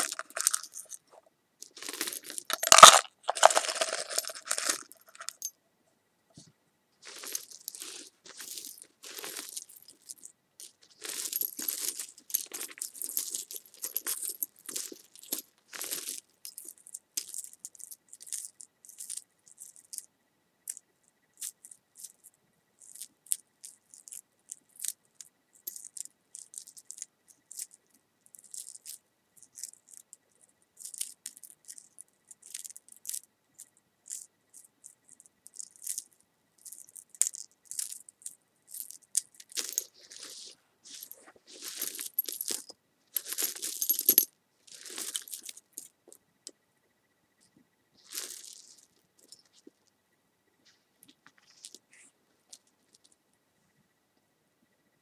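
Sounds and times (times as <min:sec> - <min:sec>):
crisp rattling and crinkling: 0:00.0 - 0:05.5, 0:07.0 - 0:20.1, 0:20.7 - 0:46.6, 0:47.4 - 0:49.9, 0:50.6 - 0:53.2.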